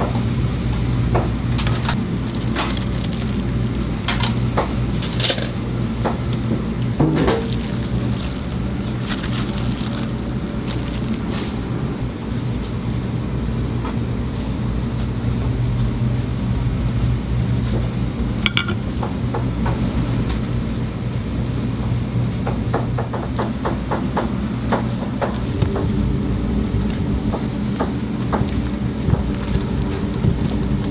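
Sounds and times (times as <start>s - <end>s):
kitchen machinery humming: 0.0s - 30.9s.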